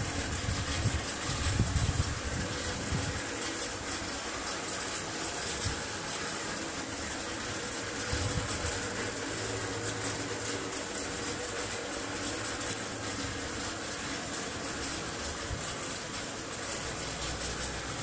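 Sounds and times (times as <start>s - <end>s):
mechanical hum and hiss: 0.0s - 18.0s.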